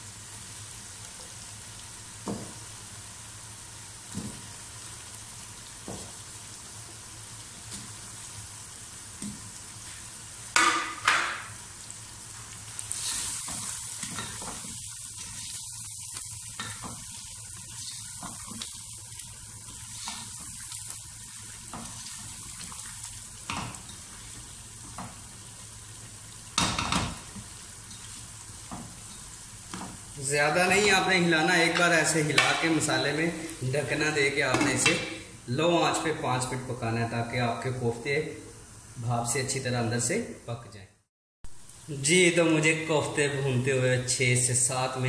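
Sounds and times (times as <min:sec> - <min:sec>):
spices sizzling in oil: 0:00.0 - 0:40.4, 0:41.4 - 0:45.0.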